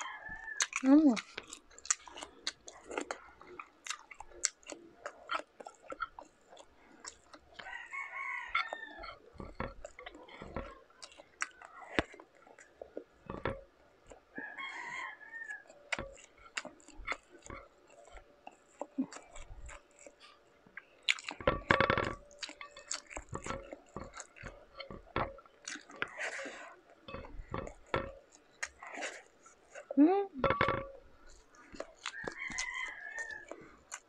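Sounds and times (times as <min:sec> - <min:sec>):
wet chewing and lip smacks: 0:00.0 - 0:34.0.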